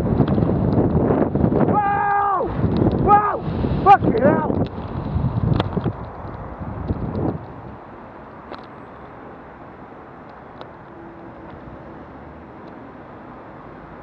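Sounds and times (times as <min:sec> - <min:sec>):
road noise: 0:00.0 - 0:14.0
rushing wind: 0:00.0 - 0:14.0.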